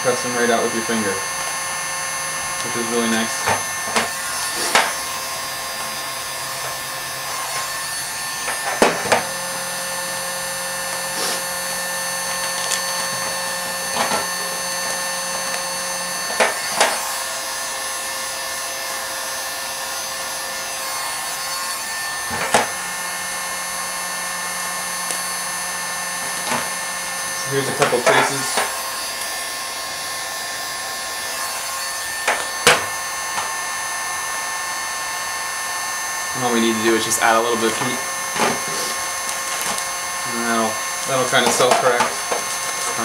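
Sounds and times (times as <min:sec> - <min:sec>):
heat gun fan humming: 0:00.0 - 0:43.0.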